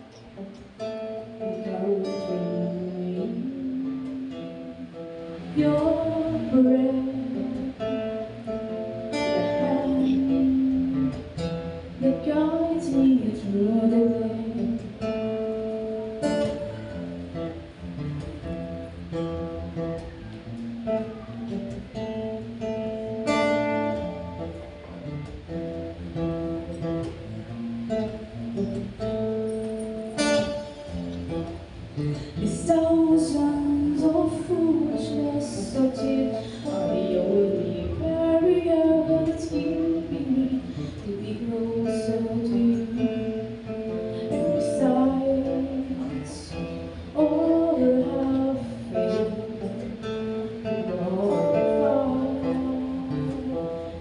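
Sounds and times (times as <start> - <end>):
acoustic guitar playing chords: 0.0 - 54.0.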